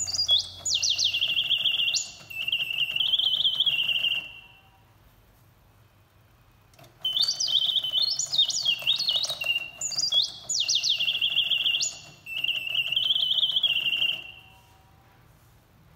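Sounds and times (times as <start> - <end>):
mechanical birdsong whistling: 0.0 - 4.8, 6.7 - 14.8.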